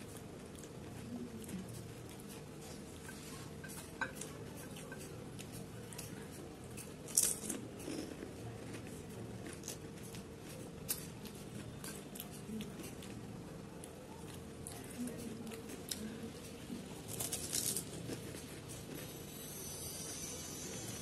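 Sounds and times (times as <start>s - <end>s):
crisp shells crunching while eating: 3.6s - 20.8s.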